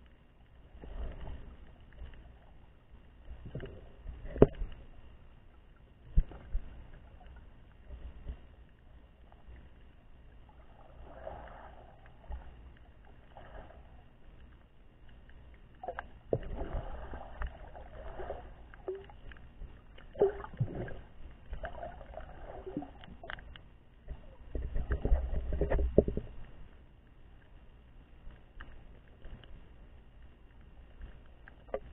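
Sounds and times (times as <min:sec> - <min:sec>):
muffled underwater water noise: 0:00.0 - 0:31.9.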